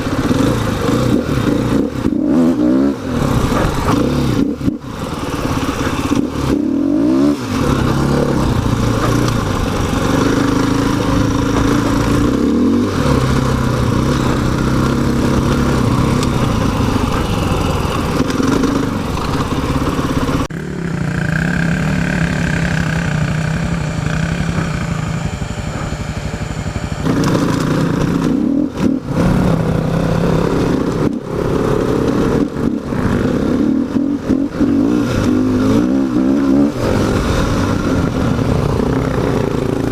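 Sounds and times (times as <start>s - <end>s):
dirt bike engine revving: 0.0s - 39.9s
rough-ground rattle: 0.0s - 39.9s.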